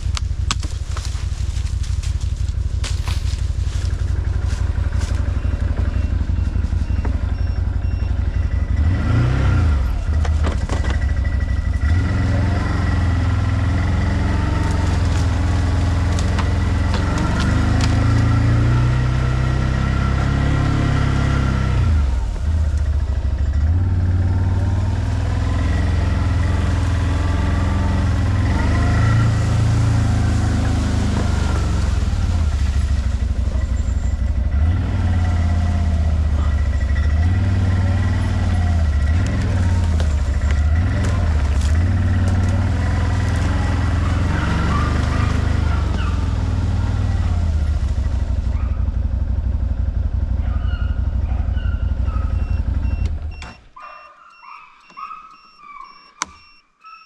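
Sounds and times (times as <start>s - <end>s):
atv engine running: 0.0s - 56.5s.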